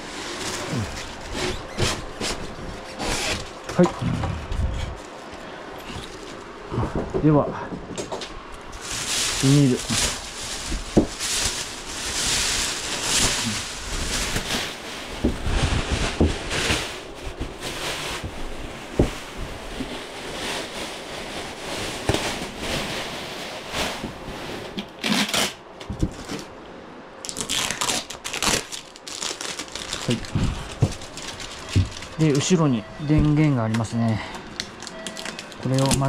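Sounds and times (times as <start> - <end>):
plastic wrapping crinkling: 0.0 - 3.8, 8.6 - 26.5, 27.2 - 32.7, 33.8 - 36.0.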